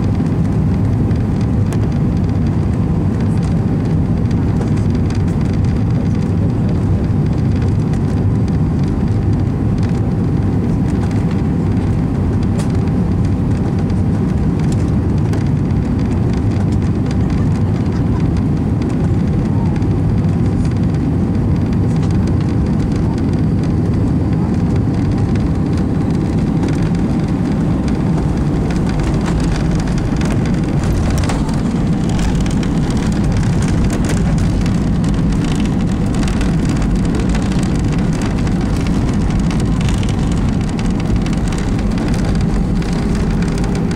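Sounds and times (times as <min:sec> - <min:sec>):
jet engine cabin rumble: 0:00.0 - 0:43.9.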